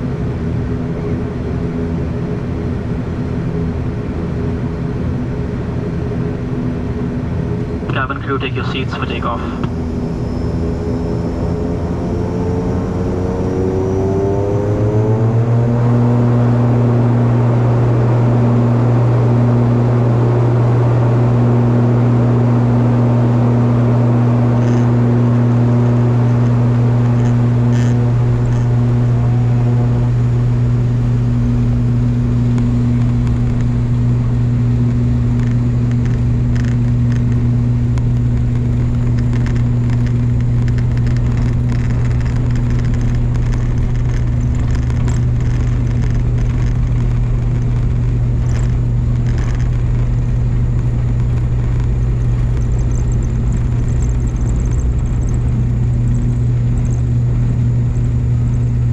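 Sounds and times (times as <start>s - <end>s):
turboprop engines drone: 0.0s - 58.9s.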